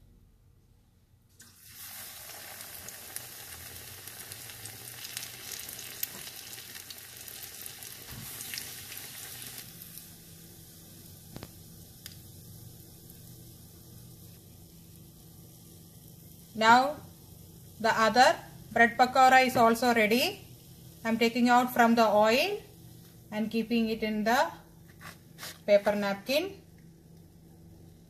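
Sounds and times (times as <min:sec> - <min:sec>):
bread deep-frying in oil: 0:01.3 - 0:24.3.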